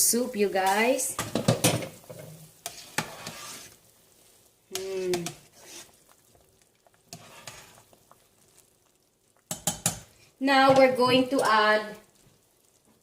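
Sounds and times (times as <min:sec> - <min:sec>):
utensil stirring soup in pot: 0:01.2 - 0:13.0.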